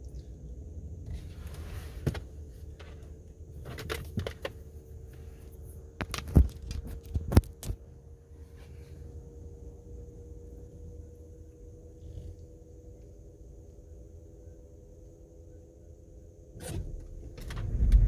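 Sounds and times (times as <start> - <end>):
car engine idling rumble: 0.0 - 18.0.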